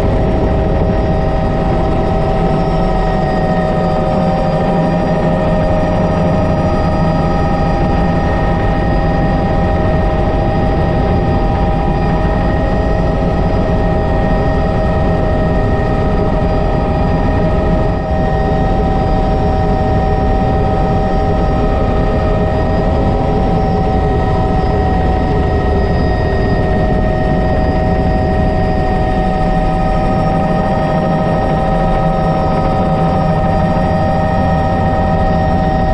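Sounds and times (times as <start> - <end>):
helicopter rotor rumble: 0.0 - 35.9
helicopter turbine whine: 0.0 - 35.9.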